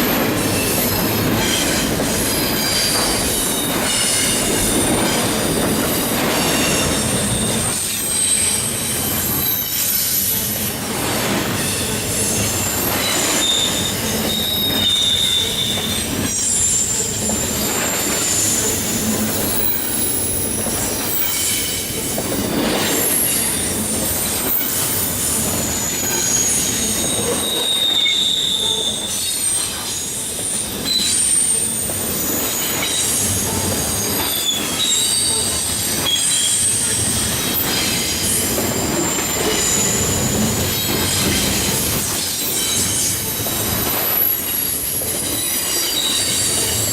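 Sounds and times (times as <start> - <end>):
freight train wheels on rails: 0.0 - 46.9
train wheels squealing: 0.0 - 46.9.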